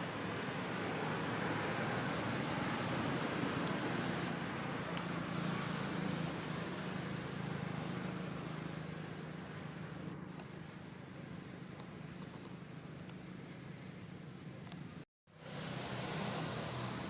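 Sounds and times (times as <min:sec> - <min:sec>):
passing vehicle engine and tyres: 0:00.0 - 0:17.0.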